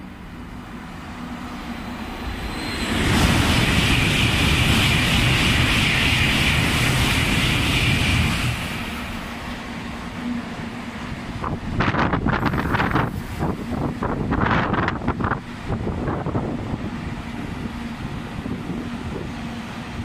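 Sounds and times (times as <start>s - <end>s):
high-speed train rushing past: 0.0s - 20.0s.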